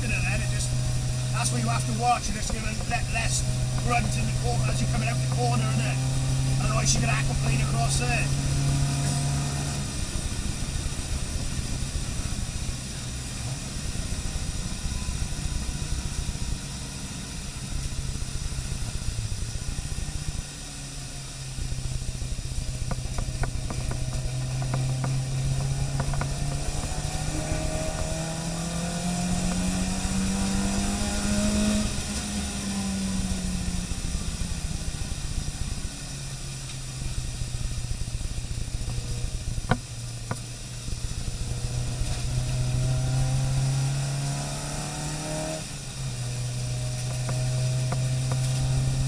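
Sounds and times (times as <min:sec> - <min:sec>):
car engine running: 0:00.0 - 0:49.0
tyres hissing on wet track: 0:00.0 - 0:49.0.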